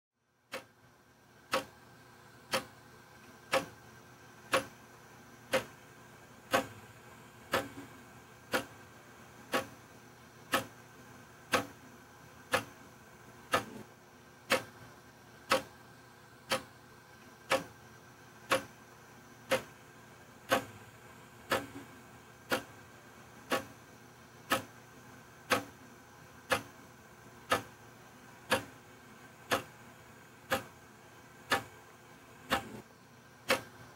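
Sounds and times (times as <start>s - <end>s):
clock ticking: 0.5s - 15.8s, 16.4s - 33.9s.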